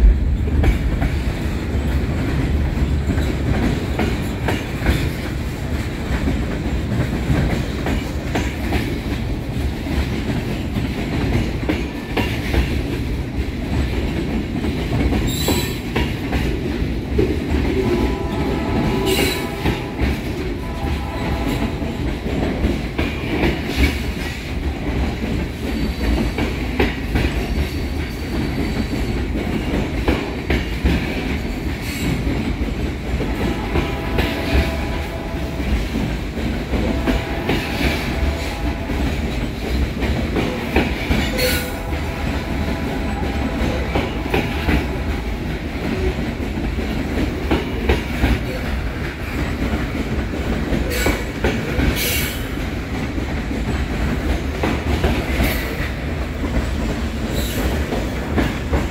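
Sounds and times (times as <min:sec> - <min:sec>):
steel wheels rumbling on rail: 0:00.0 - 0:58.9
clacks over rail joints: 0:00.1 - 0:58.9.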